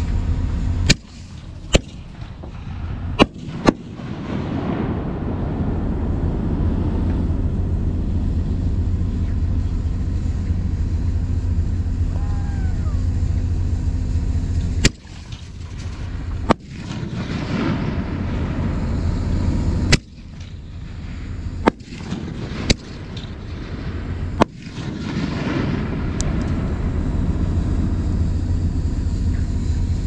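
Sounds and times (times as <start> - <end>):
low rumble: 0.0 - 30.0
fireworks bangs: 0.8 - 29.6.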